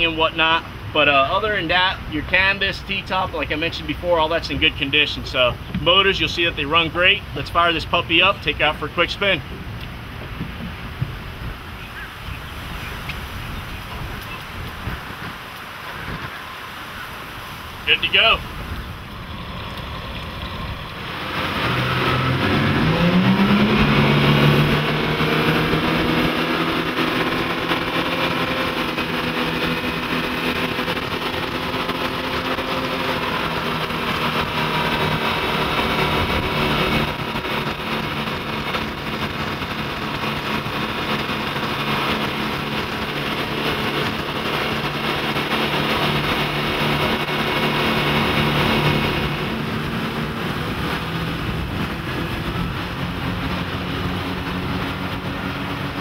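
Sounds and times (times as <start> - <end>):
outboard boat engines: 0.0 - 56.0.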